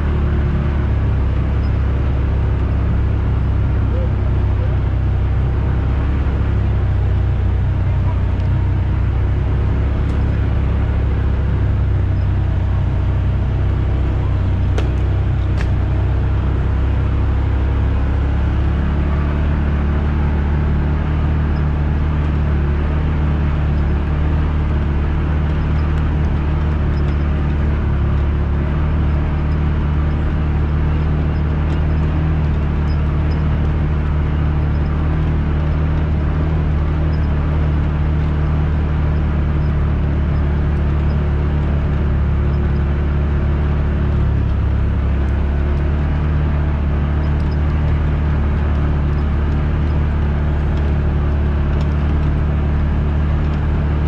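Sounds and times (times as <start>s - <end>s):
tyres on dirt trail: 0.0s - 54.0s
vehicle engine droning: 0.0s - 54.0s.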